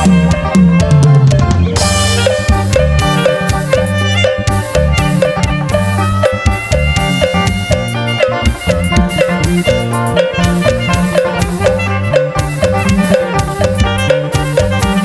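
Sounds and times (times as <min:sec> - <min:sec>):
music with drum beat and melody: 0:00.0 - 0:15.0.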